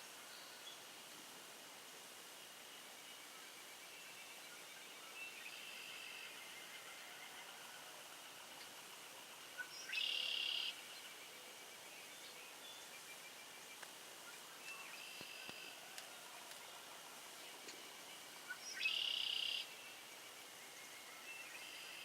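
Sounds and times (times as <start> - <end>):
songbirds calling: 2.7 - 22.0.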